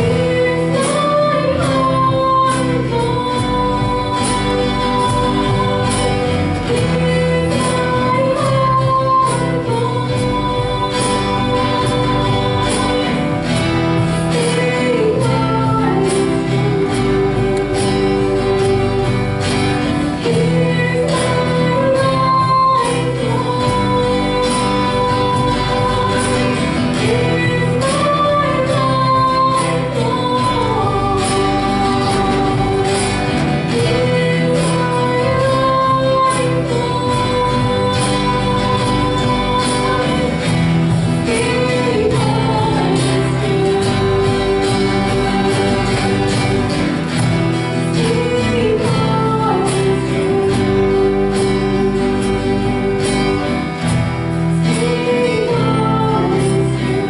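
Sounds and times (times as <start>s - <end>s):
church band playing slow song: 0.0s - 57.0s.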